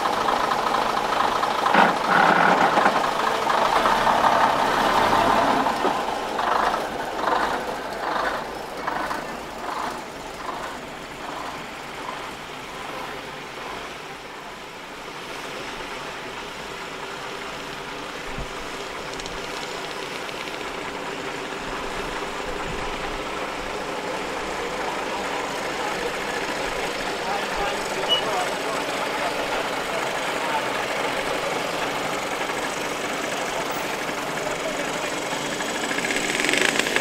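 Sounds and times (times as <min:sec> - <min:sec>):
regular engine pulsing: 0:00.0 - 0:14.3, 0:16.3 - 0:37.0
lorry diesel engines running: 0:00.0 - 0:37.0.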